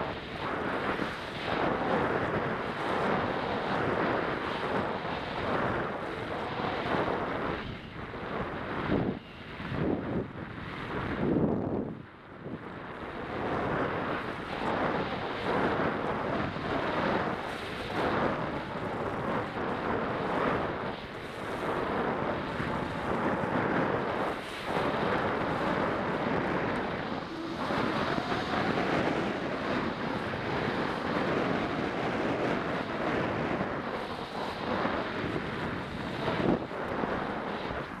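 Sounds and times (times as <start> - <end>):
skis scraping over snow: 0.0 - 10.0, 13.2 - 38.0
wind rushing over microphone: 0.0 - 38.0.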